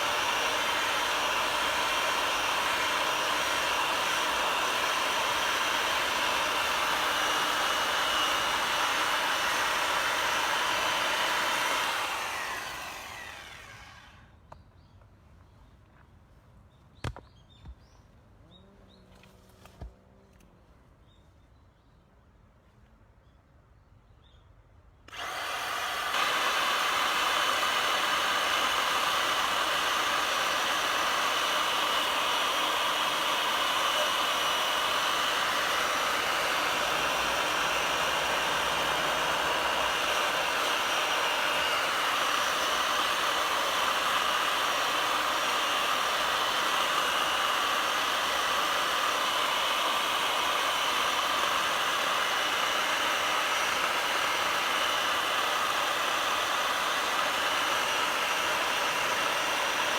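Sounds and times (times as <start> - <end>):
motor running steadily: 0.0 - 14.3, 25.1 - 59.9.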